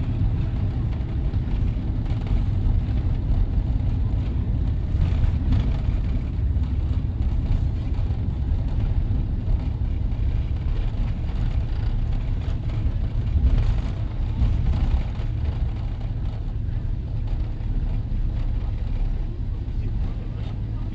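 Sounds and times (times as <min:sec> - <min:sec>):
aircraft cabin engine rumble: 0:00.0 - 0:20.9.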